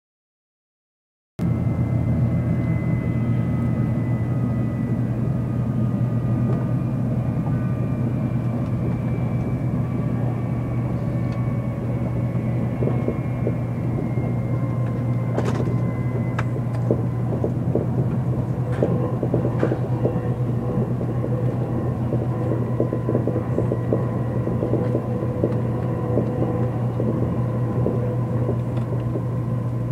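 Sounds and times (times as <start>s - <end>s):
train cabin low rumble: 1.4s - 29.9s.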